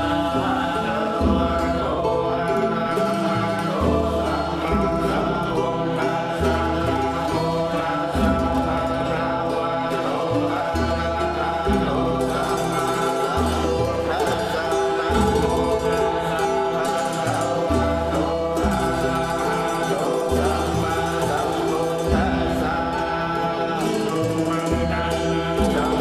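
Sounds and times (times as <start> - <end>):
men chanting in low voices: 0.0 - 26.0.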